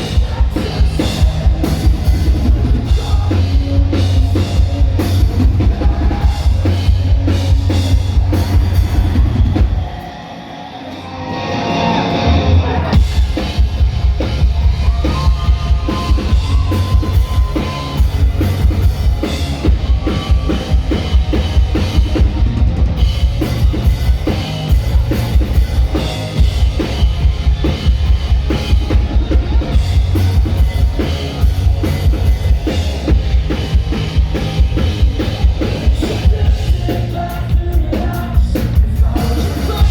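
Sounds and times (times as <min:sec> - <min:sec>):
drum kit beat: 0:00.0 - 0:10.0, 0:13.0 - 0:39.9
live rock band playing: 0:00.0 - 0:39.9.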